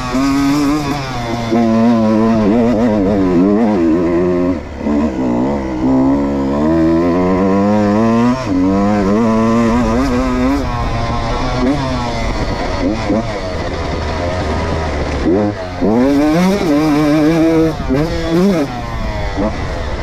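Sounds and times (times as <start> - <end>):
two-stroke motorcycle revving: 0.0 - 20.0.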